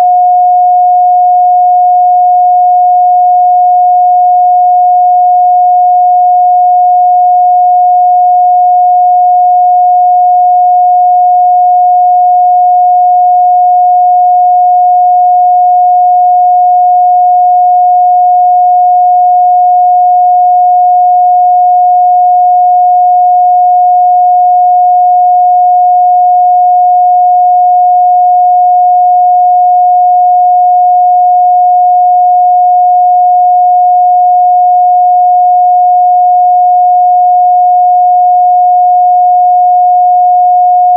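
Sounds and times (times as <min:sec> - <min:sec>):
sine-wave test tone: 0:00.0 - 0:40.9.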